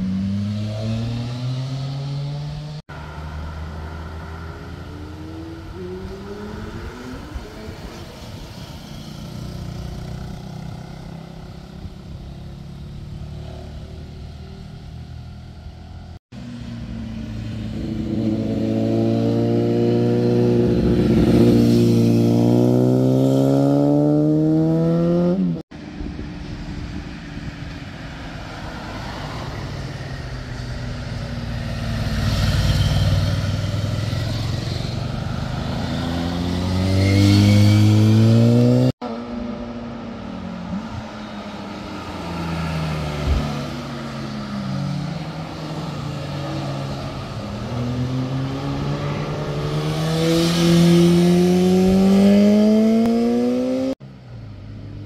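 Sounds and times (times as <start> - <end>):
motorcycle engines accelerating: 0.0 - 54.0.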